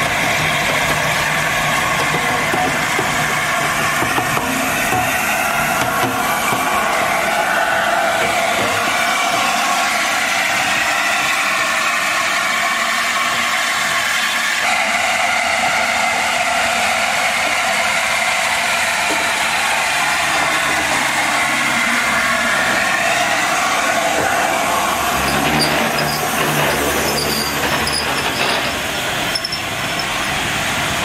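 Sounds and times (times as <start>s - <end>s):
steam locomotive running past: 0.0s - 31.0s.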